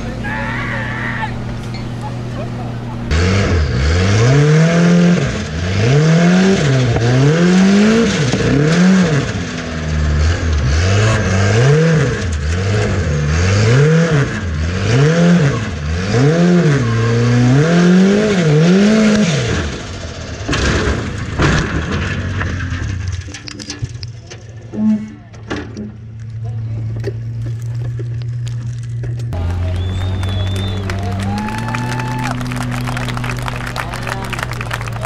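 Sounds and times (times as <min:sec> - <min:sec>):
buggy engine revving: 0:00.0 - 0:23.4, 0:24.6 - 0:35.0.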